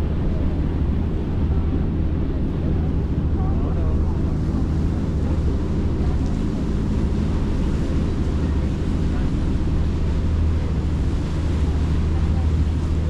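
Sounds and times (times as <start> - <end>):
boat engine droning: 0.0 - 13.0
water noise: 0.0 - 13.0
wind: 0.0 - 13.0.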